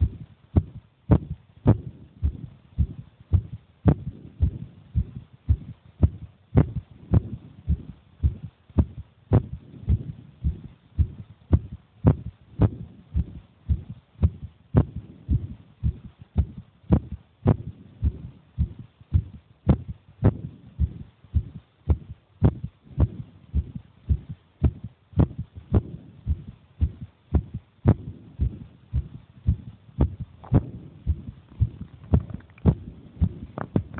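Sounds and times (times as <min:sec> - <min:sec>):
heartbeat thumps: 0:00.0 - 0:33.9.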